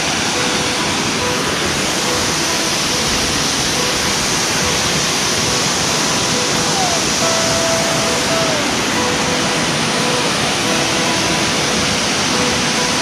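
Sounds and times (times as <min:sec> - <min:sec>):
waterfall rushing onto boulders: 0:00.0 - 0:13.0.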